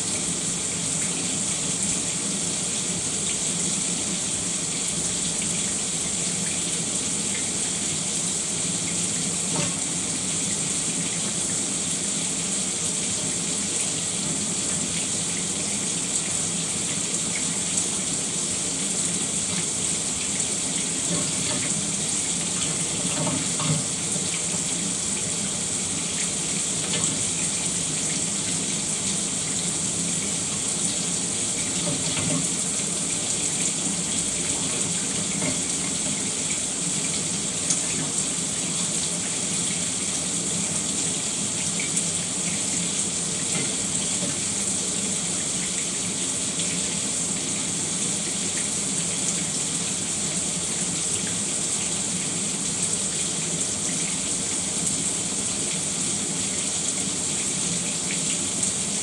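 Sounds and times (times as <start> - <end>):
shower water spraying: 0.0 - 47.4
water drips and splashes: 0.0 - 59.0.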